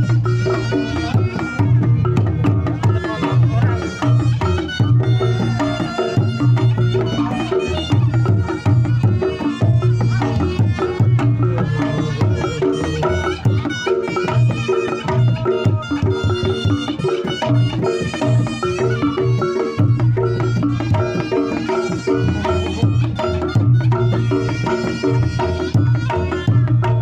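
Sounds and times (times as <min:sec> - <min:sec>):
fast hand drumming: 0:00.0 - 0:27.0.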